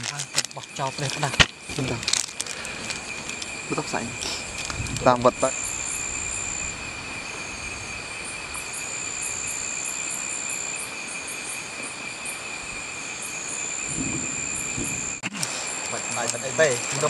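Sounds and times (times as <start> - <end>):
crickets trilling: 0.0 - 17.0
shrill insect trill: 0.0 - 17.0.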